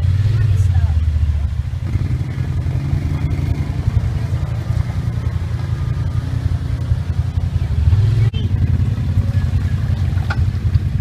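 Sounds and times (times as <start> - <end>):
utility vehicle engine rumbling: 0.0 - 11.0.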